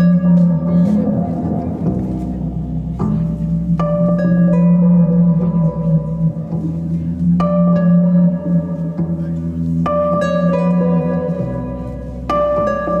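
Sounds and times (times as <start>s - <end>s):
chiming guitar notes: 0.0s - 13.0s
low double bass drone: 0.0s - 13.0s.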